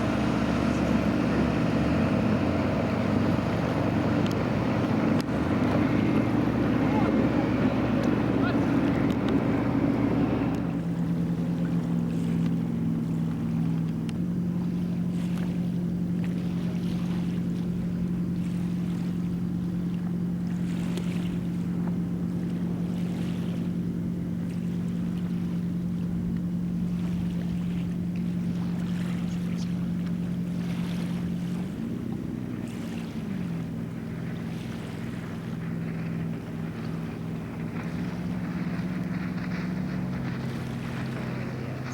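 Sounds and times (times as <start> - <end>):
boat engine running: 0.0 - 41.9
water rushing: 0.0 - 41.9.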